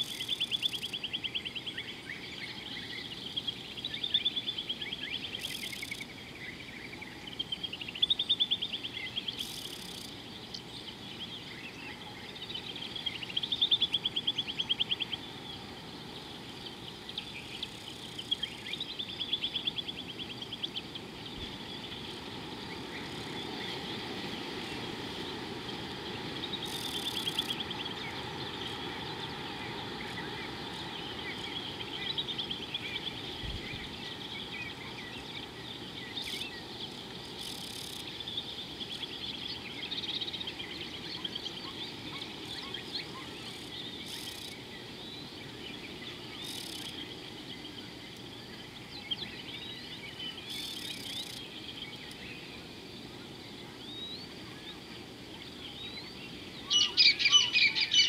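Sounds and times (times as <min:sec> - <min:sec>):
steady low hiss: 0:00.0 - 0:58.0.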